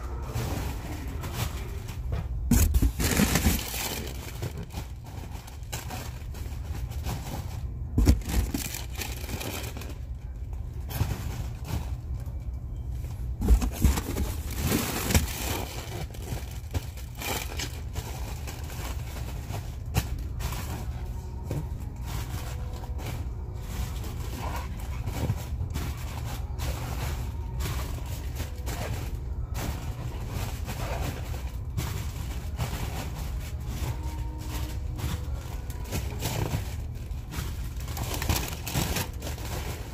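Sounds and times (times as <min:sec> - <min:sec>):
plastic bags crinkling: 0:00.0 - 0:39.9.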